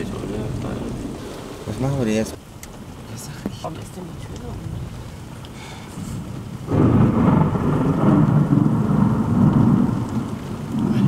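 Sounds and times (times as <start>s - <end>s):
rain on a vehicle: 0.0s - 11.0s
thunder rumbling: 0.0s - 11.0s.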